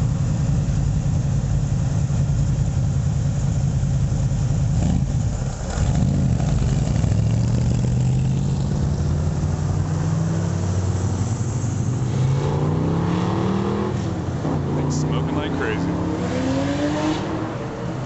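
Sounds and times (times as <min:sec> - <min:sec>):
sports car engine: 0:00.0 - 0:18.0.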